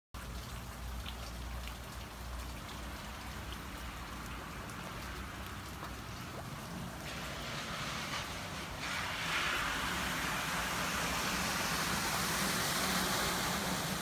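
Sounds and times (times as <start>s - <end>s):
rain pattering on water and leaves: 0.2s - 14.0s.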